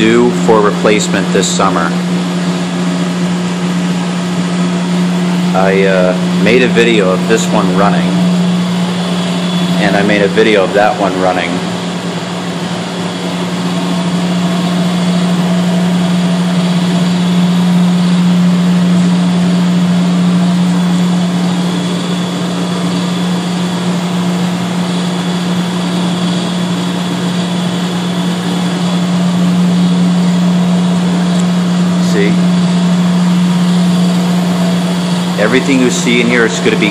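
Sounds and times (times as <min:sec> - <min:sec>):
boilers droning: 0:00.0 - 0:36.9.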